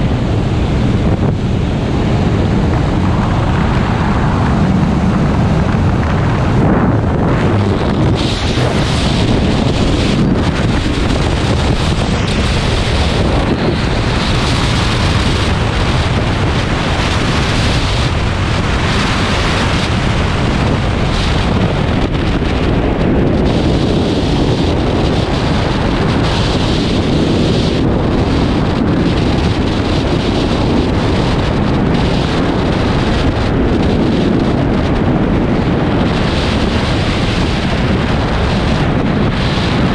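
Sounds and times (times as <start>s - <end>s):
freefall wind buffeting microphone: 0.0s - 39.9s.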